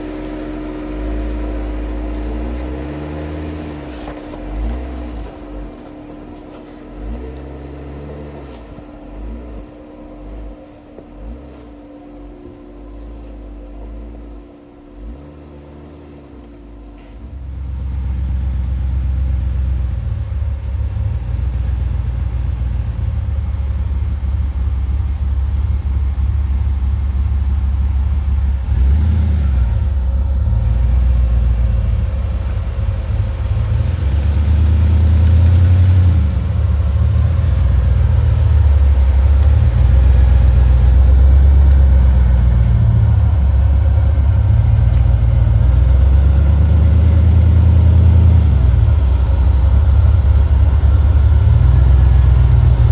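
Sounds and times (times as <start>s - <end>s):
pickup truck engine driving off-road: 0.0s - 52.9s.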